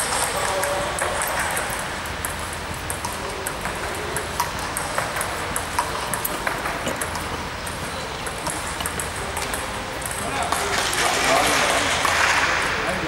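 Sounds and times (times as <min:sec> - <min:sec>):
table tennis balls clicking: 0:00.0 - 0:12.8
background noise: 0:00.0 - 0:13.0.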